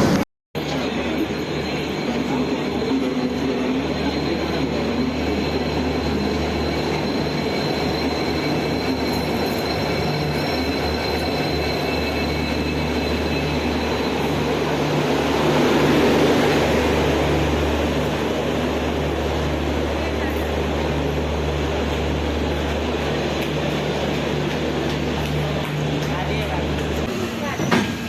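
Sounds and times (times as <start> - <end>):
high whine of train: 0.0 - 28.0
train rumbling: 0.0 - 28.0.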